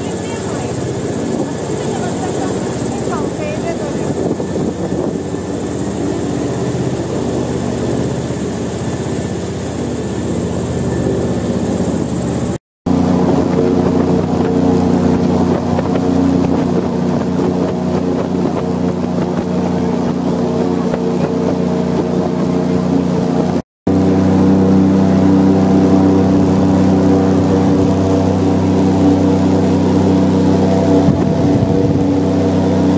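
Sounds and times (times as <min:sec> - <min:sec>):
airboat engine and propeller drone: 0:00.0 - 0:32.9.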